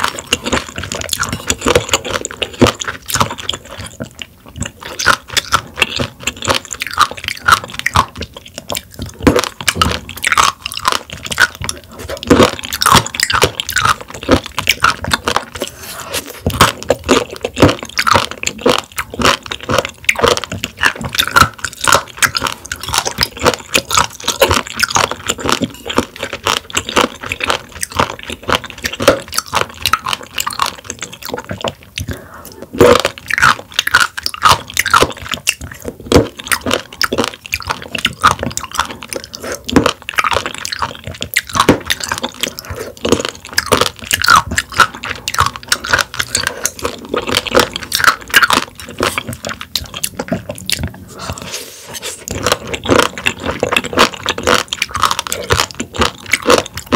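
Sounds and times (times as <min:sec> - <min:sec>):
crunchy wet chewing: 0:00.0 - 0:56.9.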